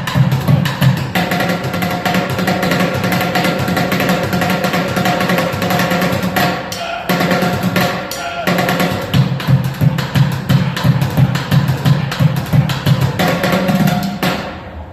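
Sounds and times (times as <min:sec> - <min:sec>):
fast drumming: 0:00.0 - 0:14.6.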